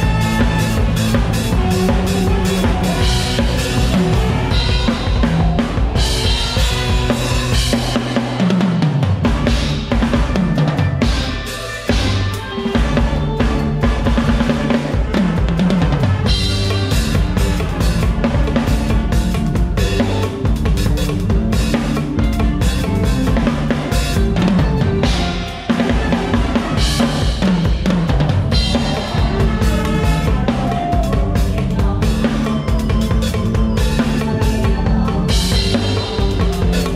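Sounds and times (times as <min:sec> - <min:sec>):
drum kit playing: 0:00.0 - 0:36.9
electric bass: 0:00.0 - 0:36.9
keyboards: 0:00.0 - 0:36.9.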